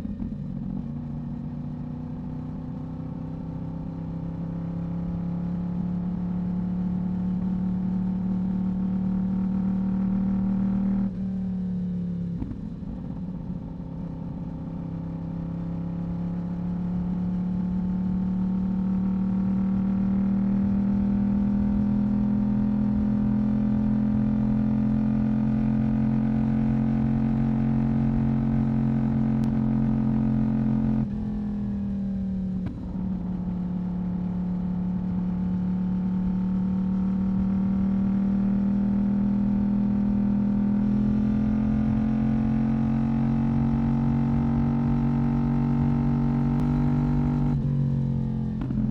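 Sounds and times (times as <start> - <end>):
motorcycle engine and exhaust: 0.0 - 48.9.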